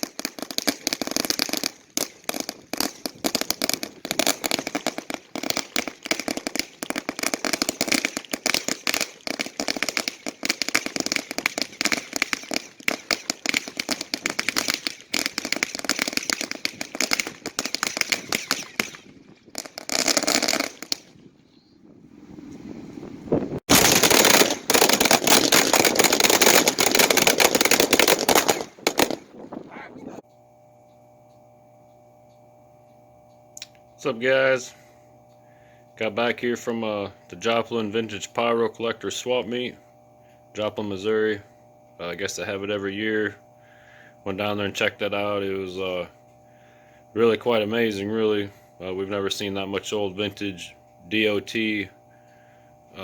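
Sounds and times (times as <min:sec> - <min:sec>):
firecrackers going off: 0:00.0 - 0:21.3, 0:23.2 - 0:30.2, 0:33.6 - 0:53.0.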